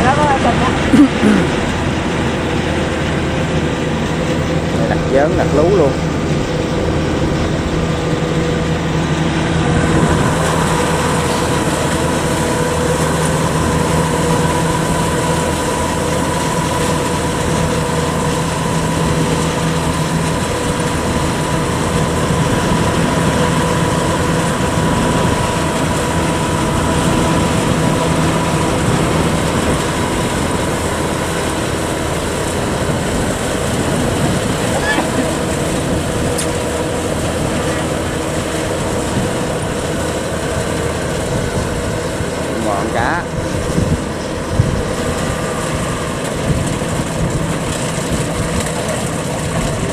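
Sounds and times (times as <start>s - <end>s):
combine harvester engine droning: 0.0s - 49.9s
thin steady whine: 0.0s - 49.9s
threshing machinery drone: 0.0s - 49.9s.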